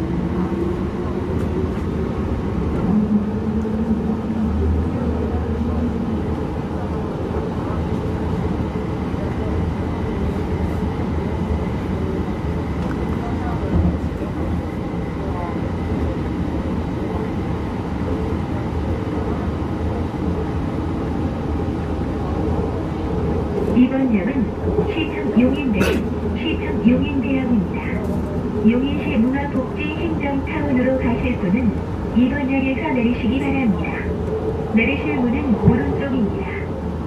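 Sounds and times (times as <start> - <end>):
train rumble inside car: 0.0 - 37.0.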